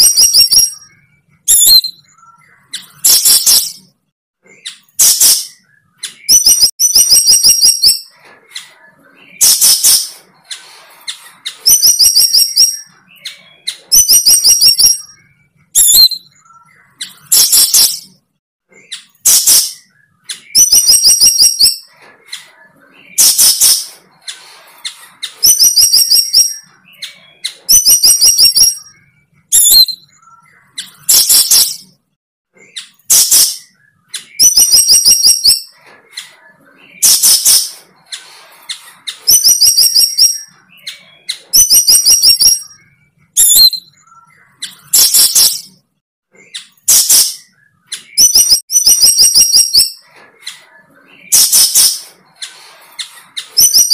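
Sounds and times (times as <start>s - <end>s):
bird song of clicking notes: 4.6s - 9.8s, 11.4s - 24.3s, 24.9s - 32.0s, 32.7s - 53.9s.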